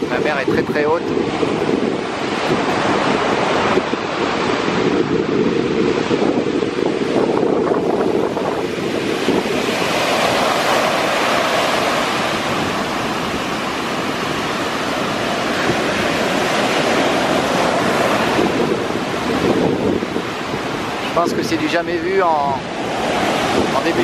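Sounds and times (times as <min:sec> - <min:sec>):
sea surf washing on shore: 0:00.0 - 0:24.0
wind buffeting microphone: 0:00.0 - 0:24.0.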